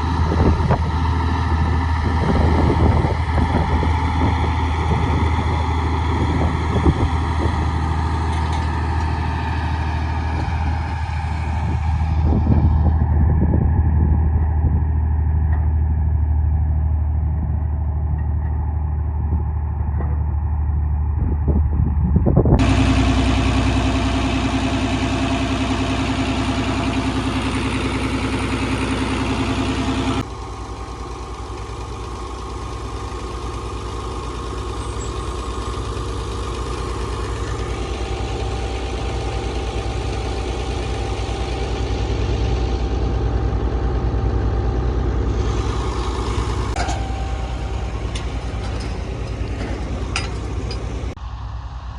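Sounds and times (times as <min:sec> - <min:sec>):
farm machinery engines running: 0:00.0 - 0:51.9.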